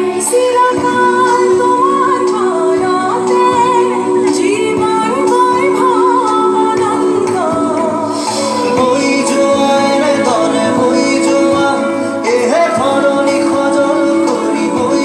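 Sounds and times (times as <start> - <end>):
held instrumental notes: 0.0 - 15.0
woman singing: 0.0 - 15.0.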